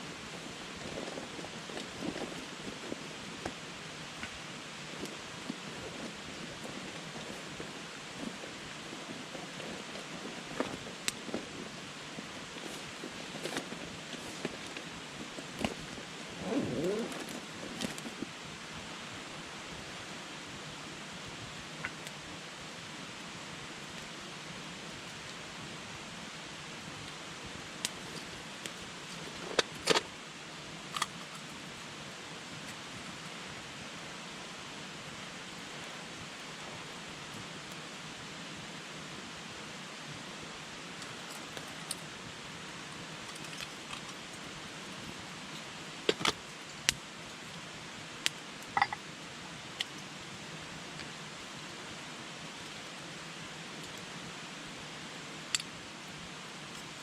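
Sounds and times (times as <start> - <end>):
campfire hissing and crackling: 0.0 - 57.0.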